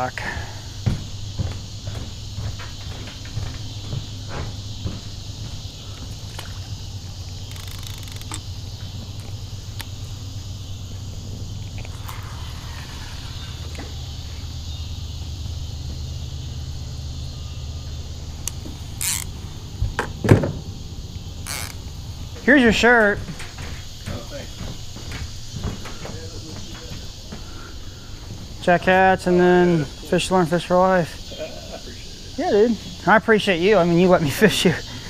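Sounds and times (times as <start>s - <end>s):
crickets chirping: 0.0s - 35.0s
steady low hum: 0.0s - 35.0s.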